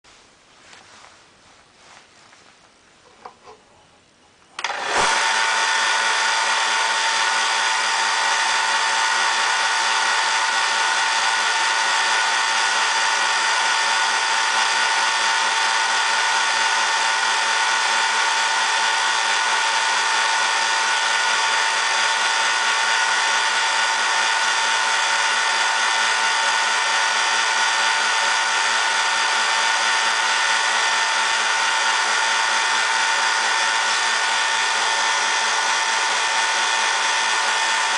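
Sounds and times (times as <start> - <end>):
belt sander whining: 4.6 - 37.9.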